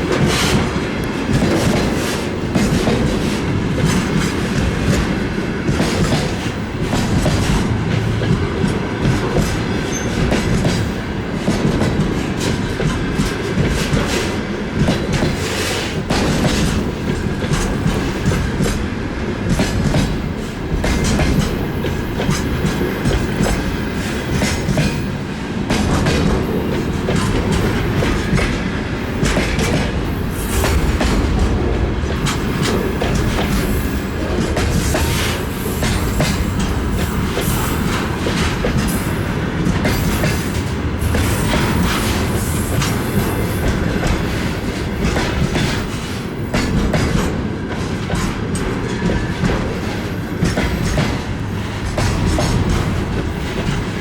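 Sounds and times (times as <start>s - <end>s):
train wheels rumbling on rails: 0.0s - 54.0s
wheels clacking over rail joints: 0.0s - 54.0s.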